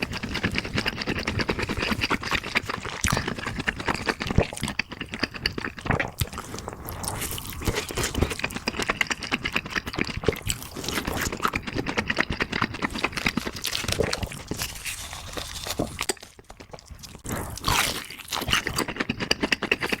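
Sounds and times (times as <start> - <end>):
person crunching and chewing: 0.0 - 20.0.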